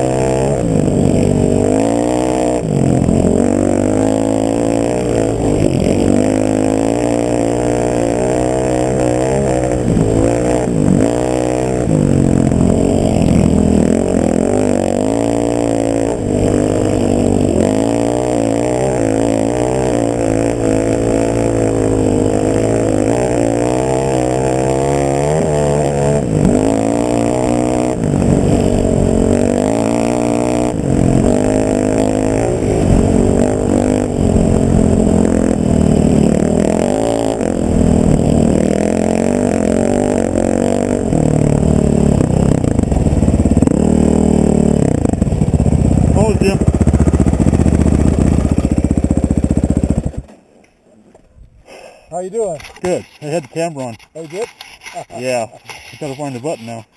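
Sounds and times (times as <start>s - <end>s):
motor vehicle engine running: 0.0s - 50.5s, 52.4s - 56.9s.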